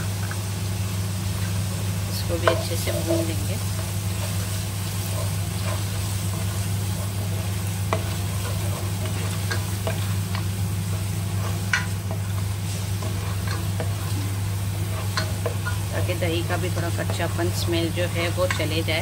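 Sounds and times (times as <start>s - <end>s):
onions sizzling in oil: 0.0s - 19.0s
steady low hum: 0.0s - 19.0s
spatula scraping pan: 2.4s - 19.0s.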